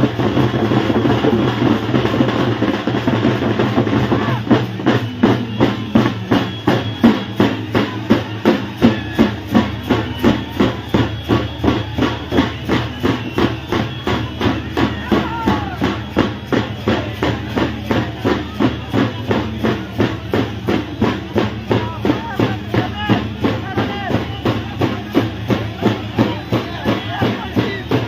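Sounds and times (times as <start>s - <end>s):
steady drumbeat: 0.0s - 28.0s.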